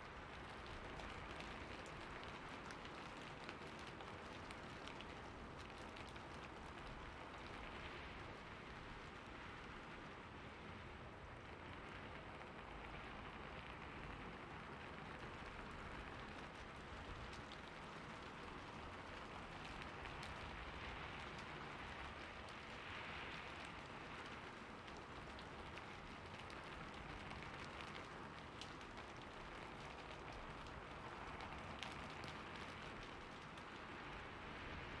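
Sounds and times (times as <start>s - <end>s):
steady rainfall: 0.0s - 35.0s.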